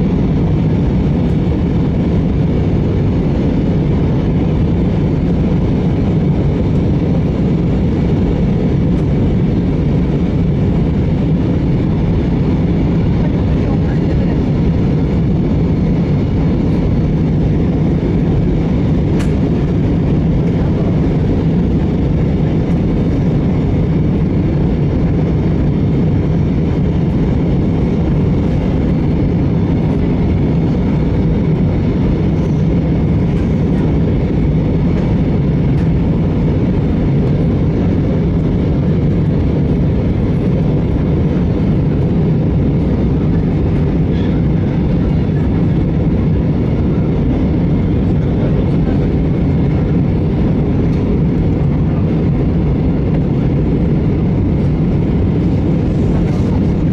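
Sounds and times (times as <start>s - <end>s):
aircraft cabin engine rumble: 0.0s - 56.9s.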